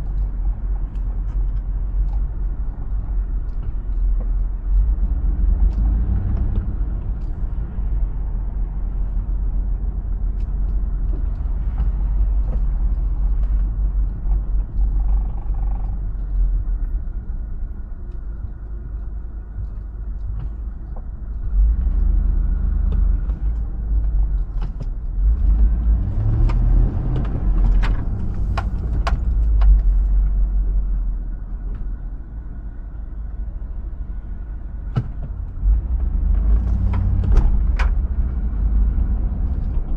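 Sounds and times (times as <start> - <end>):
car engine running while driving: 0.0 - 39.9.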